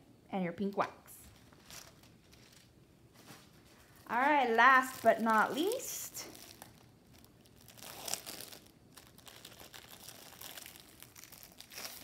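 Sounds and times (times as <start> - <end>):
plastic wrap crinkling: 0.6 - 12.0.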